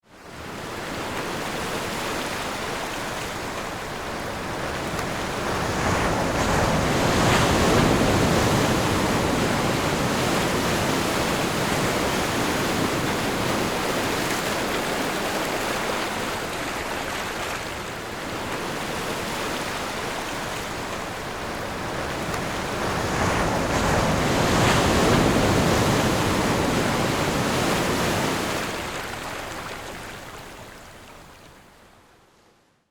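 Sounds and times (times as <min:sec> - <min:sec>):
sea waves washing in: 0:00.3 - 0:31.4.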